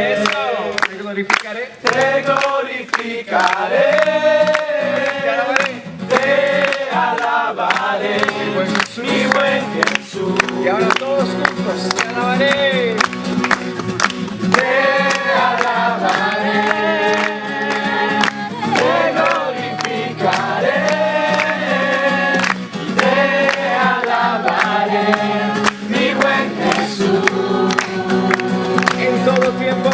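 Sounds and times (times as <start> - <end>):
group singing in chorus: 0.0 - 0.9, 1.8 - 11.0, 14.5 - 29.9
instrumental accompaniment: 3.5 - 29.9.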